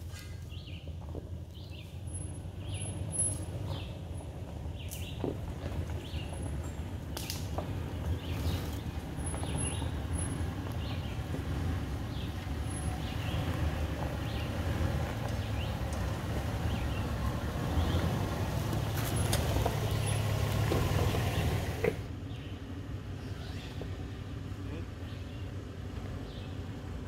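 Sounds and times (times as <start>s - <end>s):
truck engine low rumble: 0.0s - 27.0s.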